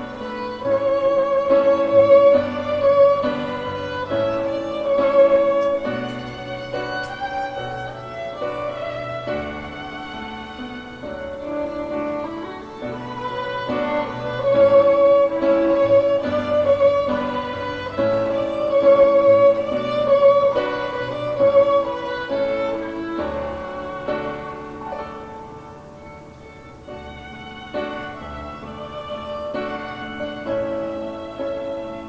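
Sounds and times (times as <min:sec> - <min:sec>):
slow melody with soft accompaniment: 0:00.0 - 0:32.0.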